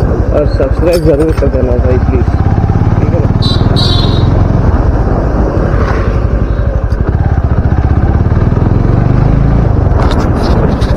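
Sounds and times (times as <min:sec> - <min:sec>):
motorcycle engine throbbing: 0:00.0 - 0:10.2.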